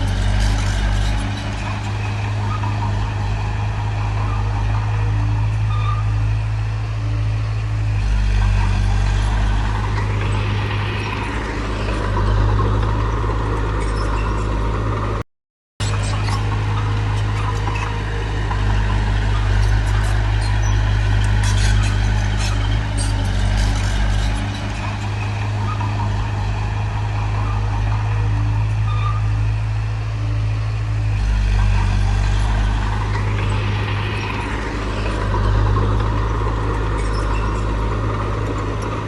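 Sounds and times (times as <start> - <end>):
diesel construction machinery running: 0.0 - 15.2, 15.8 - 39.0.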